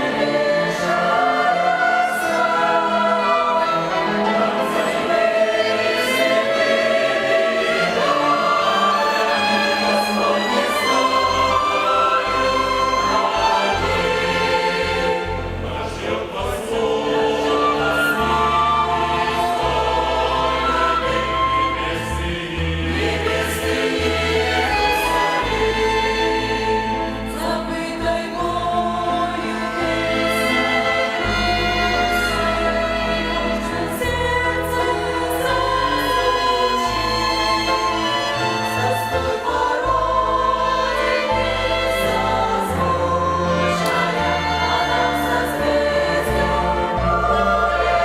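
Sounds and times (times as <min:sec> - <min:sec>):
choir singing a hymn: 0:00.0 - 0:48.0
violin ensemble: 0:00.0 - 0:48.0.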